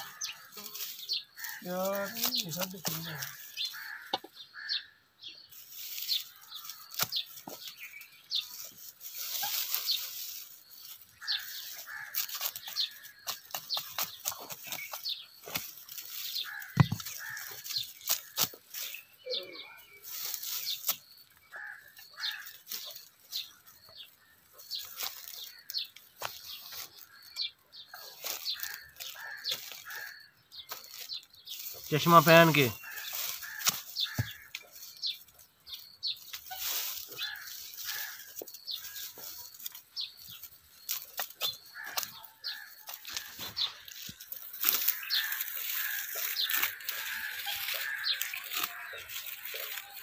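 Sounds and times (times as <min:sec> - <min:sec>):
dry stalks rustling and crackling: 0:00.0 - 0:04.7, 0:05.5 - 0:50.0
birds chirping: 0:00.0 - 0:50.0.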